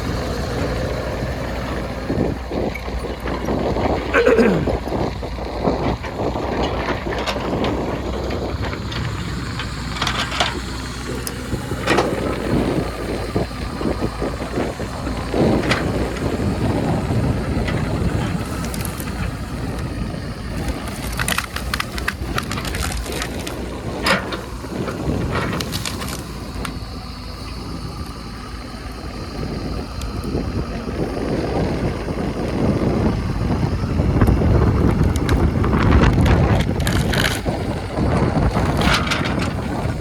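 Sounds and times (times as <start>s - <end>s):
diesel earthmoving machine running: 0.0s - 40.0s.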